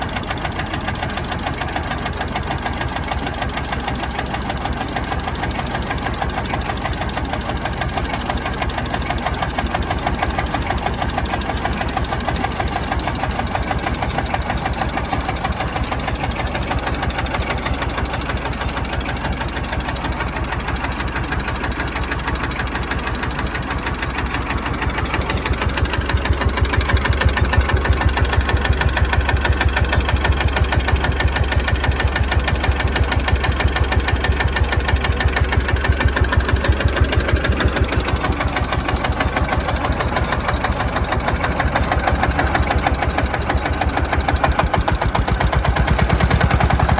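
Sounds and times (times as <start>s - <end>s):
diesel engine knocking: 0.0s - 46.9s.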